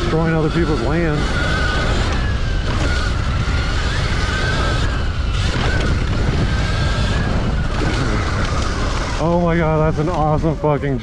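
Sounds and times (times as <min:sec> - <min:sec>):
electric motor whining: 0:00.0 - 0:11.0
wind buffeting microphone: 0:00.0 - 0:11.0.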